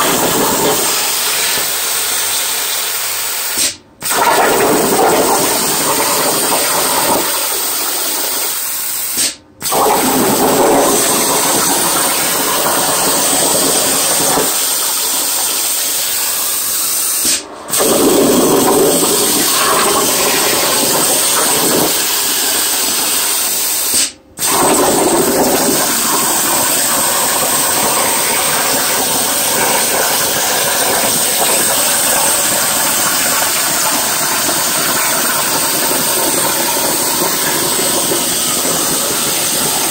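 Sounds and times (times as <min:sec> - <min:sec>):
plasma torch cutting metal: 0:00.0 - 0:39.9.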